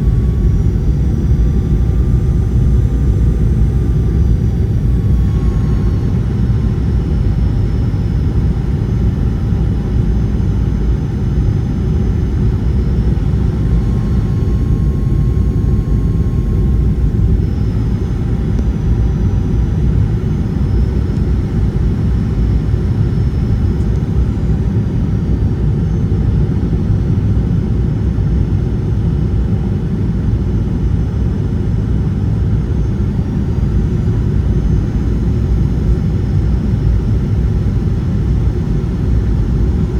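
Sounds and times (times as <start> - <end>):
airliner cabin rumble: 0.0 - 27.0, 31.8 - 39.9.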